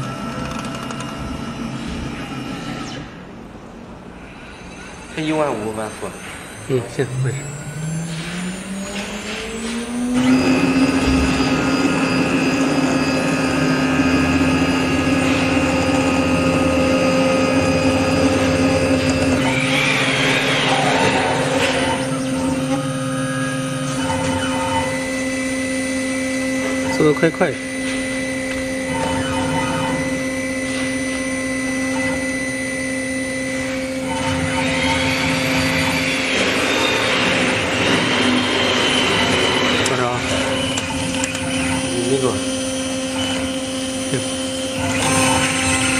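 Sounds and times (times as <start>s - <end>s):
router spindle whine: 0.0s - 45.9s.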